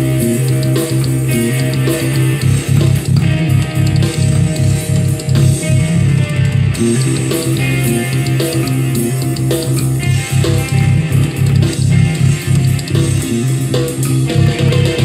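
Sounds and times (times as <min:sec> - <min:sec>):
electric bass guitar: 0:00.0 - 0:15.0
rock music: 0:00.0 - 0:15.0.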